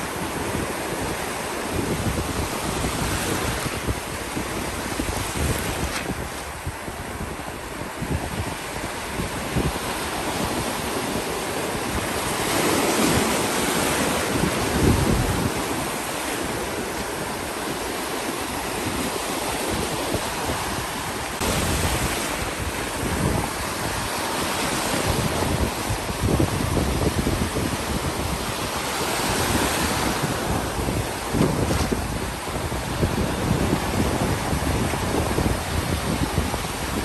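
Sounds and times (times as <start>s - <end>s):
ocean surf breaking: 0.0s - 37.0s
wind buffeting microphone: 0.0s - 37.0s.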